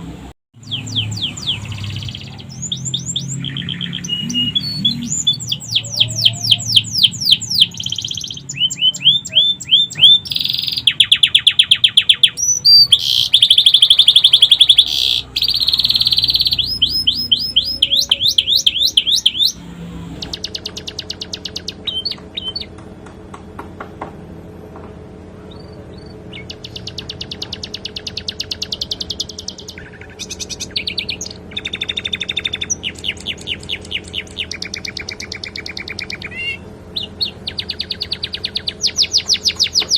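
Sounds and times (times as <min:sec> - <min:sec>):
canary singing trills: 0:00.6 - 0:22.8, 0:25.4 - 0:39.9.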